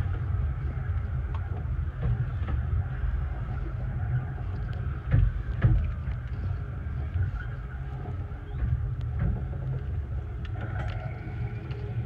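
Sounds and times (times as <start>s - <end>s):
railway carriage rumbling: 0.0s - 12.0s.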